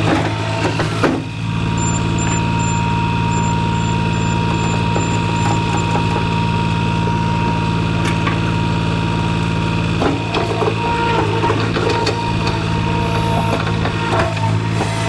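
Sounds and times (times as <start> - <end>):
engine idling: 0.4 - 14.7.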